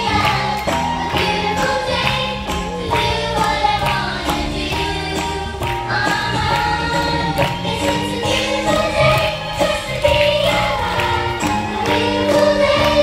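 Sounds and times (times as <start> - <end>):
song with vocals over a beat: 0.0 - 13.0.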